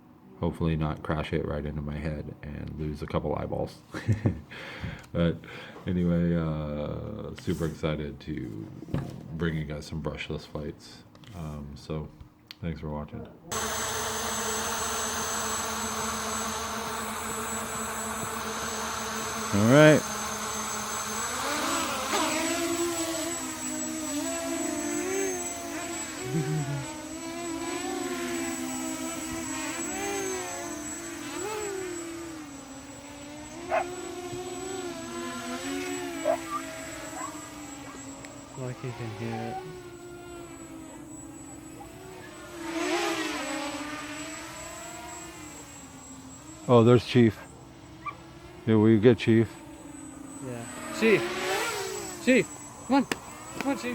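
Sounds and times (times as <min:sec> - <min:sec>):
quadcopter motors whining: 0:03.9 - 0:09.2, 0:13.5 - 0:53.9.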